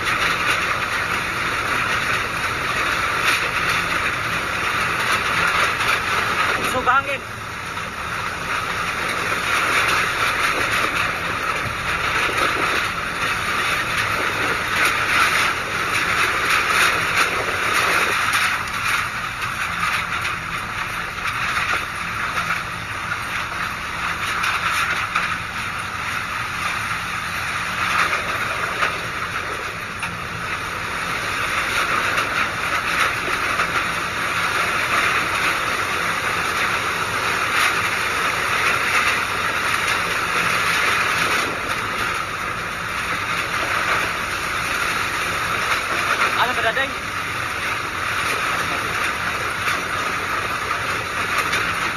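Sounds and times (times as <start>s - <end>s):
wind and driving rain: 0.0s - 51.9s.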